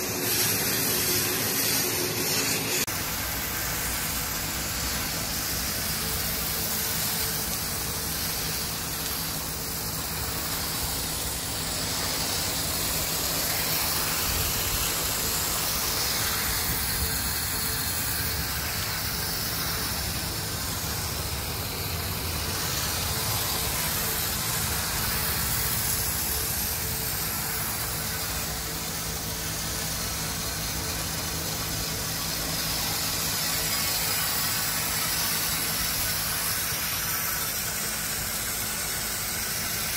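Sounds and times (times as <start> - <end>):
steady low hum: 0.0 - 39.9
water jet spraying: 0.0 - 39.9.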